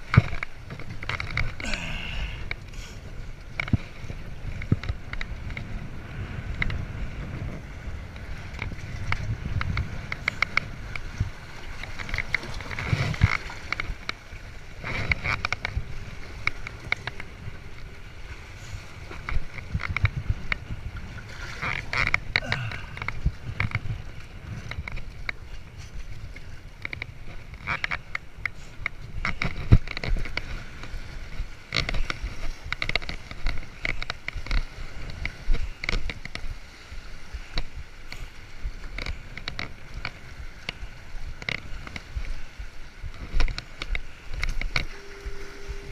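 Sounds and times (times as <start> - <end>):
water lapping against rocks: 0.0 - 45.9
wind on microphone: 0.0 - 45.9.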